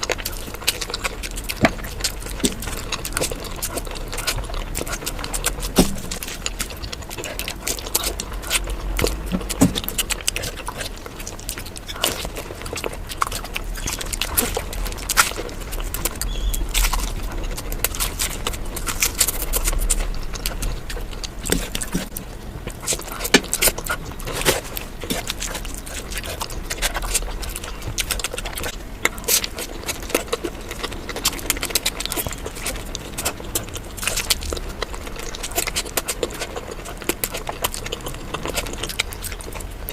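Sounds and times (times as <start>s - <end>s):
chewing and smacking: 0.0s - 39.9s.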